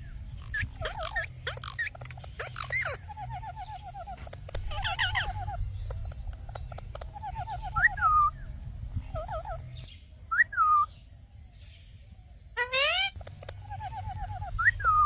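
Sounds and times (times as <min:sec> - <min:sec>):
parrot chirping and warbling: 0:00.0 - 0:10.9, 0:12.6 - 0:15.0.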